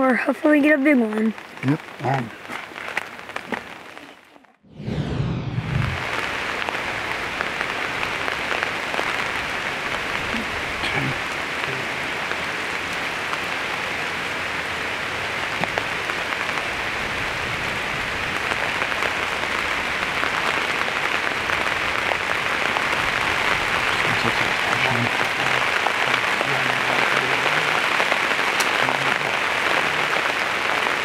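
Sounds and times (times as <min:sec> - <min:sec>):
light drizzle on a roof: 0:00.0 - 0:04.6, 0:06.2 - 0:31.0.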